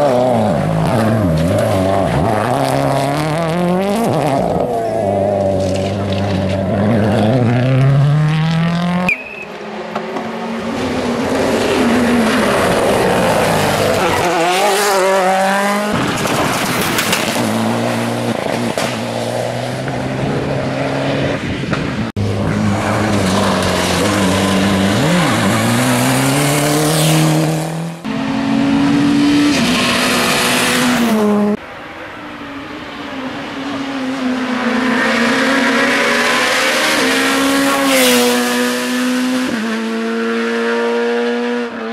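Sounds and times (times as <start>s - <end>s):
rally cars revving past: 0.0s - 31.6s, 32.8s - 41.9s.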